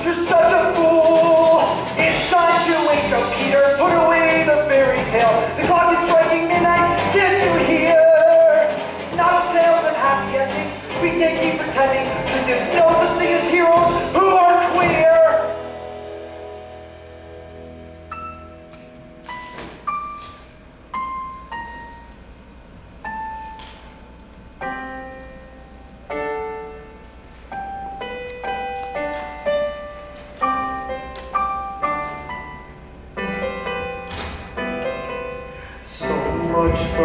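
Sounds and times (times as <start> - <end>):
slow piano piece: 0.0 - 37.0.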